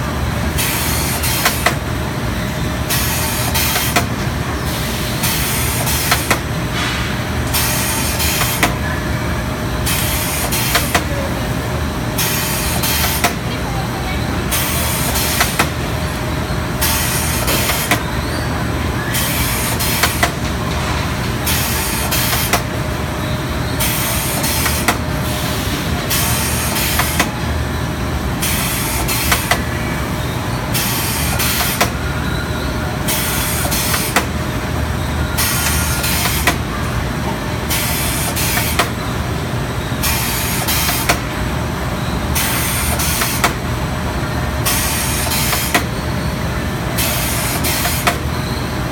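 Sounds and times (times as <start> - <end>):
machine mechanical hum: 0.0 - 48.9.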